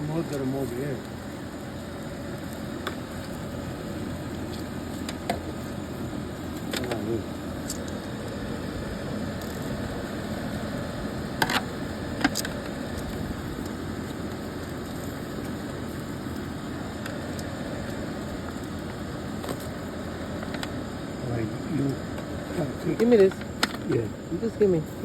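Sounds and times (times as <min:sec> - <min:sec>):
steady rumble: 0:00.0 - 0:25.0.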